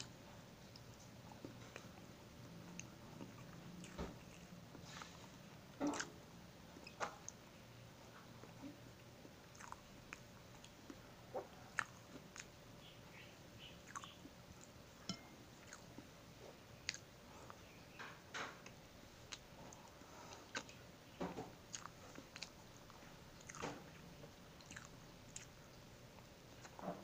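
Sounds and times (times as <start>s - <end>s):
man chewing with mouth smacks: 0.0s - 6.2s, 8.0s - 17.8s, 18.6s - 20.9s, 21.7s - 26.8s.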